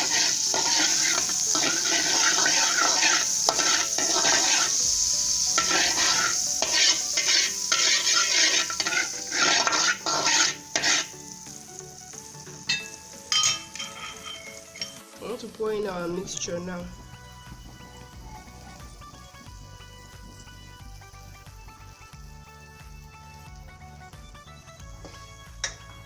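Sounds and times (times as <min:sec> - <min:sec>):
butter sizzling in a frying pan: 0:00.0 - 0:26.0.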